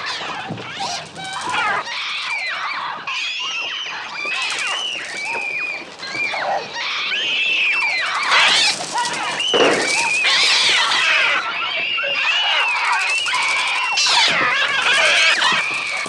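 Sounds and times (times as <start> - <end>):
children screaming: 0.0 - 16.0.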